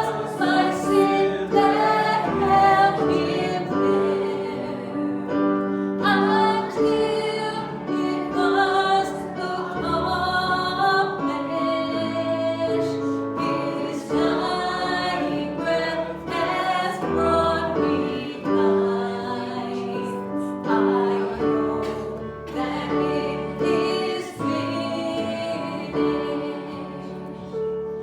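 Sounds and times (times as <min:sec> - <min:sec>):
congregation singing a hymn: 0:00.0 - 0:28.0.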